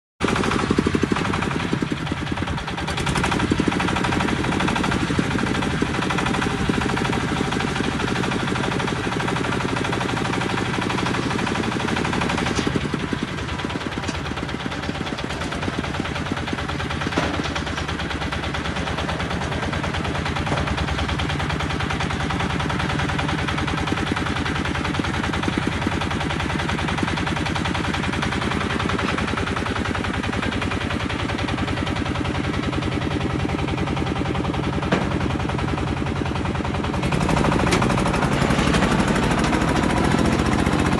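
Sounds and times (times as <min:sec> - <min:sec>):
diesel engine chugging: 0:00.2 - 0:40.9.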